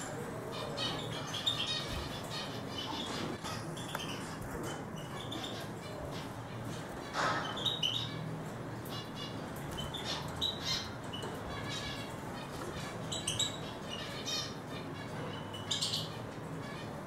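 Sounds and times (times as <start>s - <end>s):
bird twittering and trilling: 0.0s - 17.0s.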